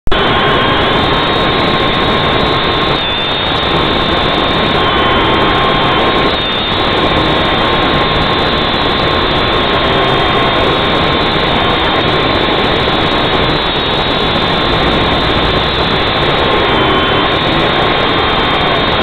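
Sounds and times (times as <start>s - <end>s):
drone motors whining: 0.1s - 19.0s
wind rumble on microphone: 0.1s - 19.0s.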